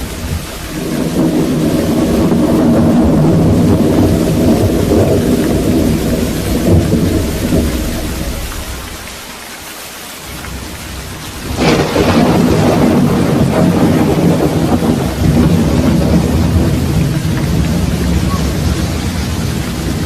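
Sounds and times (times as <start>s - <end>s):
sharp thunderclap: 0.0s - 9.1s, 10.5s - 20.0s
thunder rumbling: 0.0s - 9.3s, 10.2s - 20.0s
steady rain: 0.0s - 20.0s.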